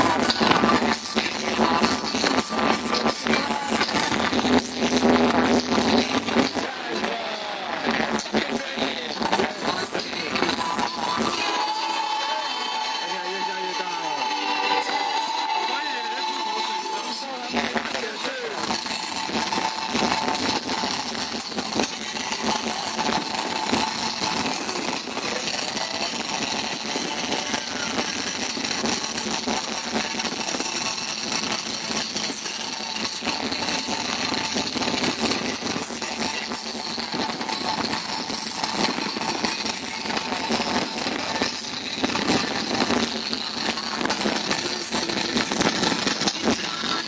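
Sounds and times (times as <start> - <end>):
fireworks crackling: 0.0 - 47.0.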